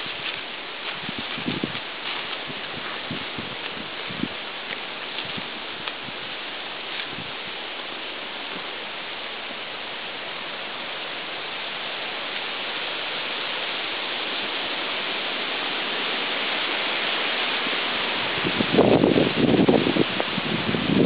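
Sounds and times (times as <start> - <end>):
steady rushing hiss: 0.0 - 21.0.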